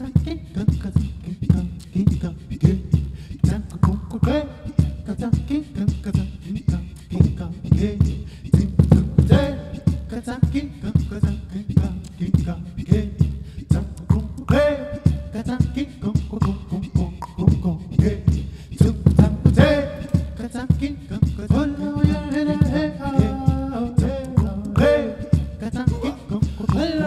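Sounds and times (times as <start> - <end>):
man singing: 0.0 - 27.0
vocal percussion: 0.0 - 27.0.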